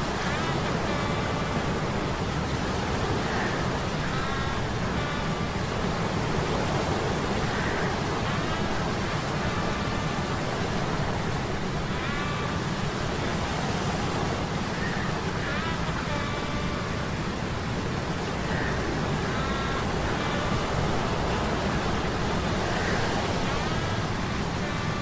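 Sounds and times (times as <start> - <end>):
faint metallic humming tones: 0.0 - 25.0
rushing sea storm noise: 0.0 - 25.0.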